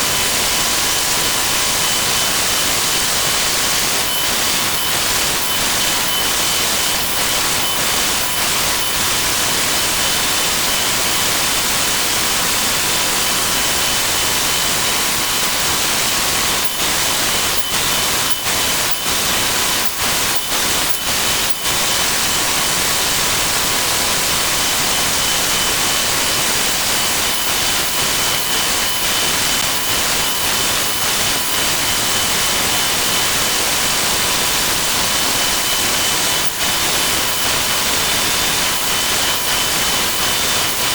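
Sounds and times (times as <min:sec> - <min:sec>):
sped-up workshop noise: 0:00.0 - 0:40.9.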